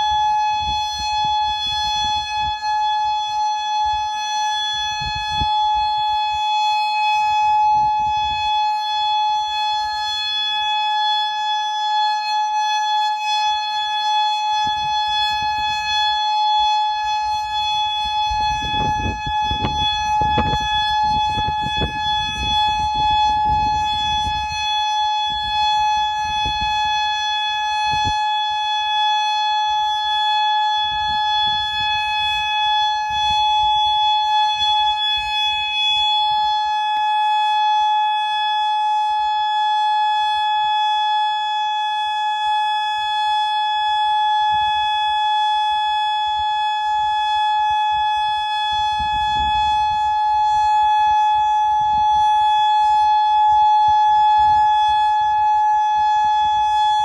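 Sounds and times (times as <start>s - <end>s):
wind rumble on microphone: 0.0s - 10.1s, 13.6s - 28.7s, 29.5s - 37.3s, 44.4s - 57.0s
steady warning siren tone: 0.0s - 57.0s.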